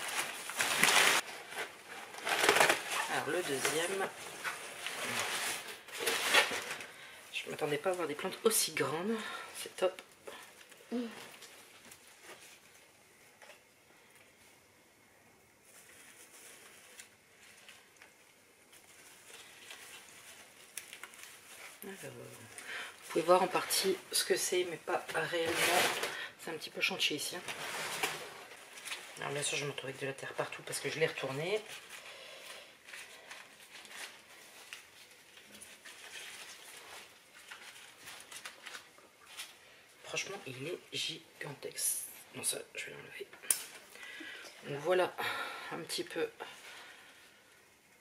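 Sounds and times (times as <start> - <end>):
rustling of plant packaging: 0.0 - 13.3, 15.5 - 48.0.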